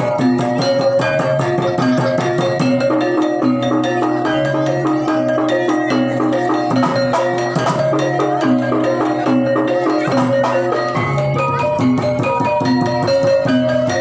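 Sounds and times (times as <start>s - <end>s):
hand drums and percussion: 0.0s - 14.0s
metallophone melody: 0.0s - 14.0s.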